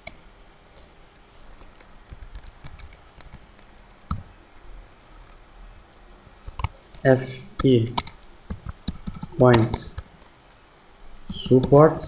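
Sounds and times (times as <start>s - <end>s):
computer mouse and keyboard clicking: 0.0s - 10.6s, 11.2s - 12.0s.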